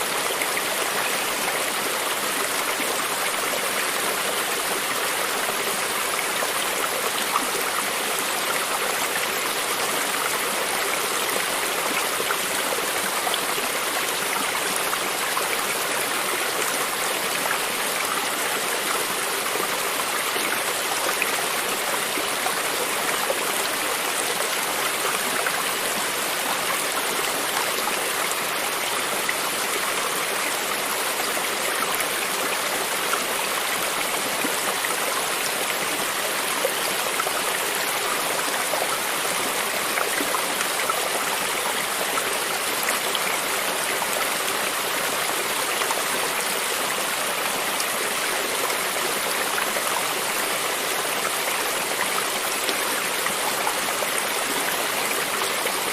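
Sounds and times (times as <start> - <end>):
creek water flowing: 0.0 - 55.9.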